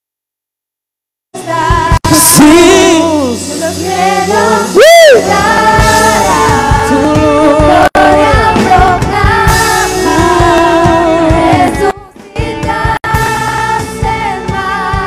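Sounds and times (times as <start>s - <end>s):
worship band and singers: 1.4s - 15.0s.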